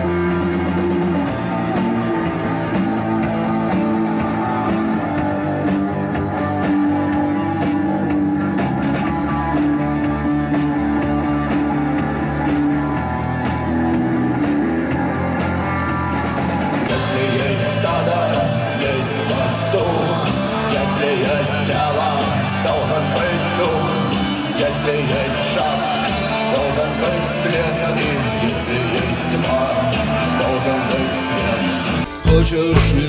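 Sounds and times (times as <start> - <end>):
drum kit: 0.0 - 33.0
electric guitar: 0.0 - 33.0.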